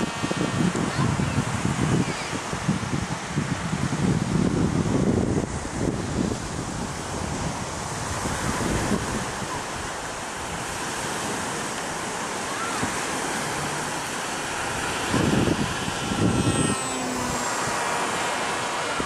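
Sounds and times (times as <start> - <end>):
electric motor and propeller whine: 0.0 - 19.0
wind buffeting microphone: 0.0 - 19.0.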